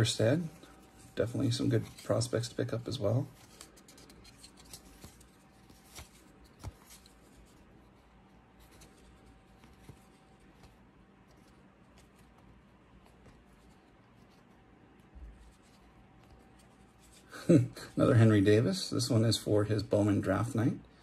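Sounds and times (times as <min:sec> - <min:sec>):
faint steady hum: 0:00.0 - 0:21.0
cards sliding and ticking: 0:00.4 - 0:17.4.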